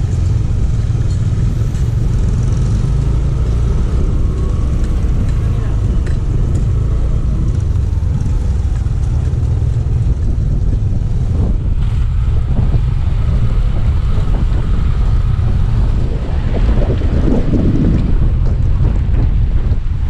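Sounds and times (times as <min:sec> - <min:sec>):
scooter engine running: 0:00.0 - 0:19.7
wind buffeting microphone: 0:00.0 - 0:20.0.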